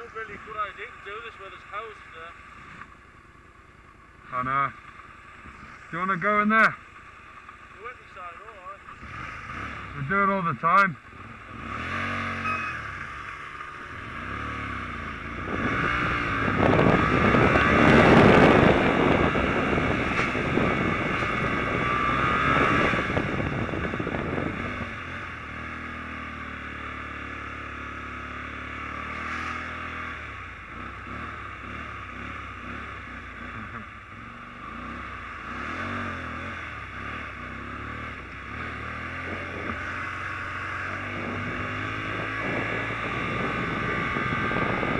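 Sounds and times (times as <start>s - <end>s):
motorbike engine revving: 4.2s - 44.9s.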